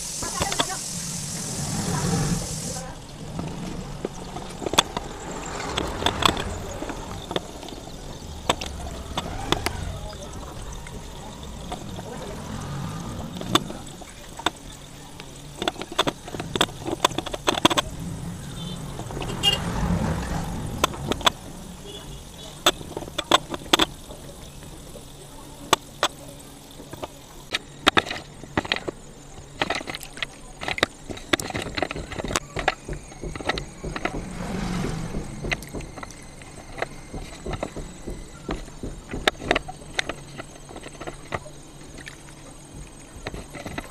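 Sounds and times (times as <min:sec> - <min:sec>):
water swishing: 0:00.0 - 0:25.6, 0:28.3 - 0:43.9.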